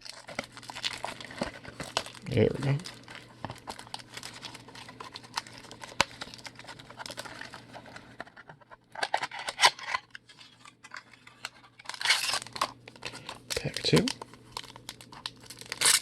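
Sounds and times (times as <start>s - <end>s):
card pack wrapper rustling: 0.0s - 16.0s.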